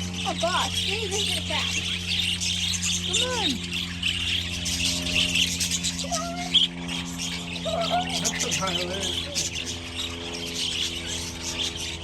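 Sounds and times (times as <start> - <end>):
budgerigars chattering: 0.0 - 12.0
steady low hum: 0.0 - 12.0.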